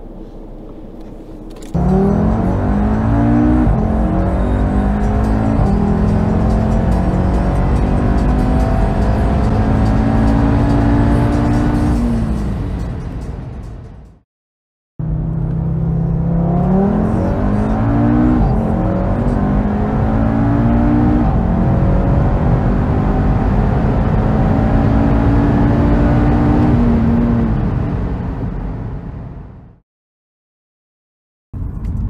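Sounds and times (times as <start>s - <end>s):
car engine accelerating hard: 0.0s - 13.2s, 15.0s - 29.2s.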